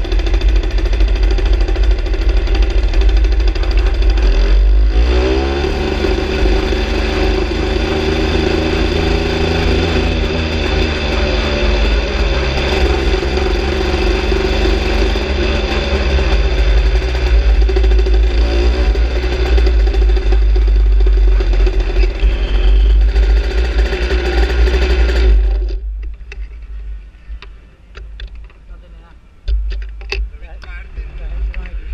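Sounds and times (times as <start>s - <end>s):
two-stroke motorcycle engine running: 0.0s - 28.6s.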